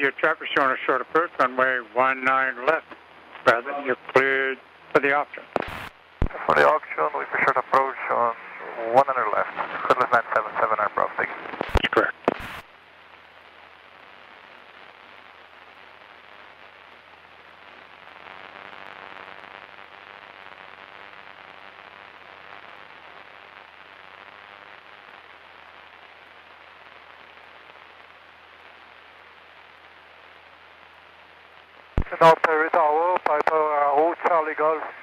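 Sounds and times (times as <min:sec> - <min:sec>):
radio hiss: 0:00.0 - 0:35.0.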